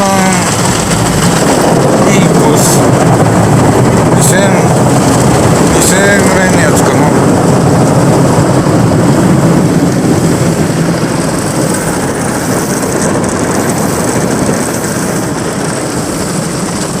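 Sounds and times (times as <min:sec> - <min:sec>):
car wash machinery and spraying water: 0:00.0 - 0:17.0.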